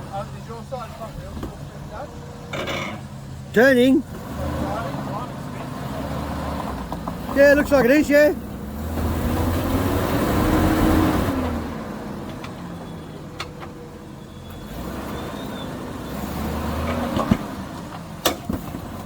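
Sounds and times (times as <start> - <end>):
engine pulling under load: 0.0 - 19.0.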